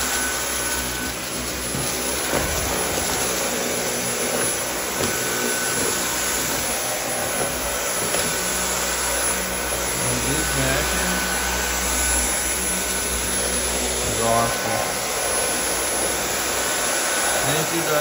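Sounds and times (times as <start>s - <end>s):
vacuum cleaner on a rug: 0.0s - 18.0s.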